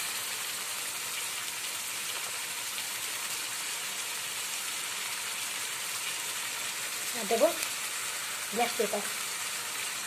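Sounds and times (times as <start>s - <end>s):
onions sizzling in a frying pan: 0.0s - 10.0s.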